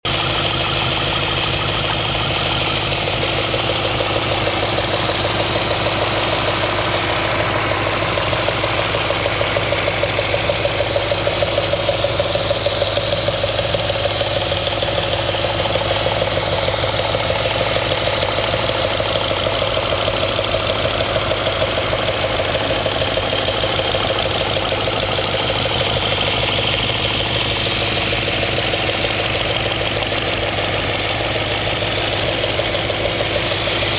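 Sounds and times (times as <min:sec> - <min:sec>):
car engine idling with rapid knock: 0:00.0 - 0:33.9.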